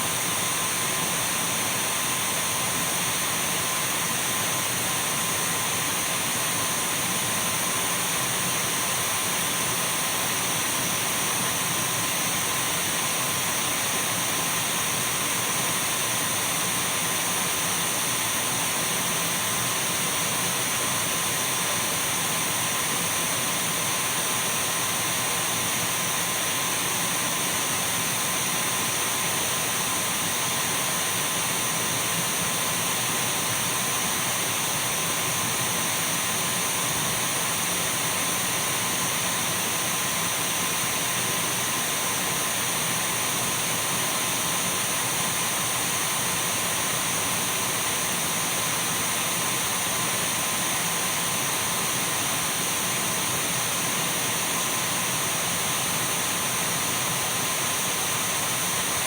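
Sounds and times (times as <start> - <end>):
cordless vacuum running: 0.0 - 59.0.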